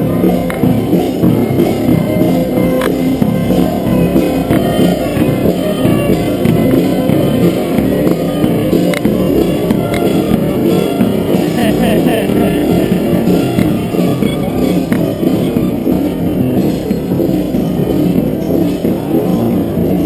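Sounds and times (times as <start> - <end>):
loud music: 0.0 - 20.0.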